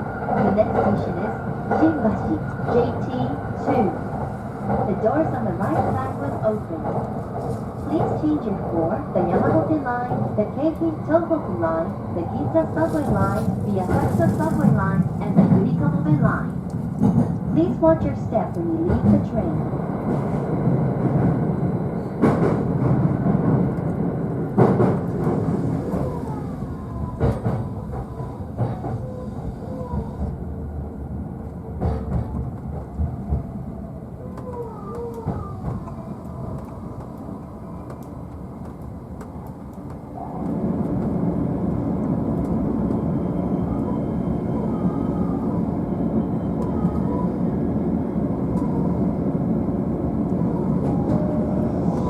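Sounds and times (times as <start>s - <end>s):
train running noise: 0.0s - 52.0s.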